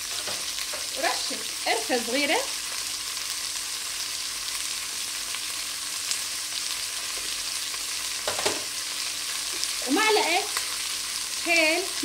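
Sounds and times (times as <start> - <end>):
bones and onions sizzling in oil: 0.0 - 12.0.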